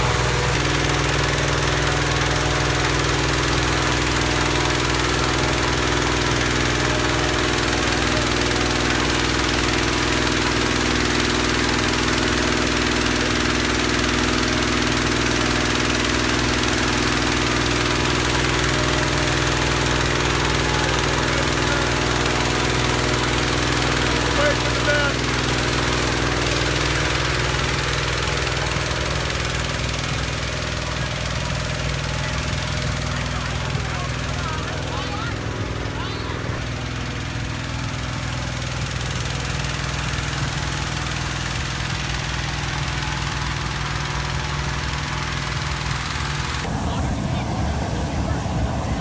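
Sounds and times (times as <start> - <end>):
small petrol engine running: 0.0 - 49.0.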